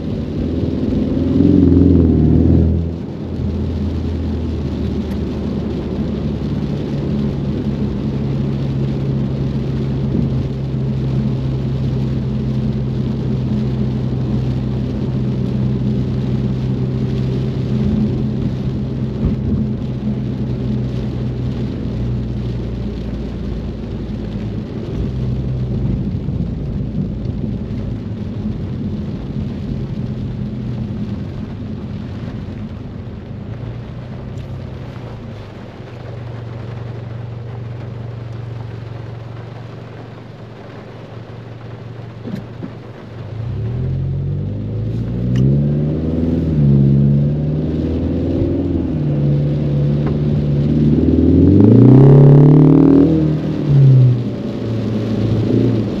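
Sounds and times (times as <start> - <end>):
car engine hum: 0.0 - 56.0
rain: 0.0 - 56.0
tyres hissing on wet pavement: 0.0 - 56.0.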